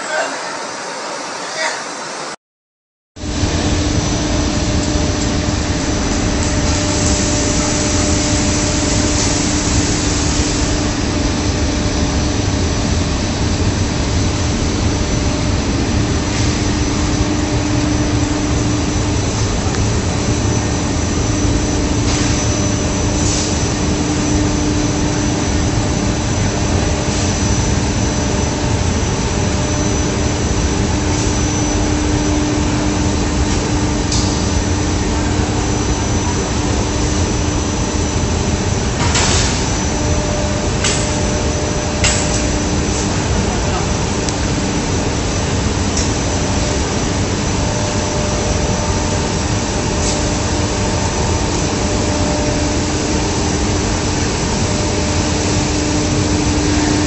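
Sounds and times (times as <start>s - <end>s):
high machine whine: 3.2s - 57.0s
machinery running: 3.2s - 57.0s.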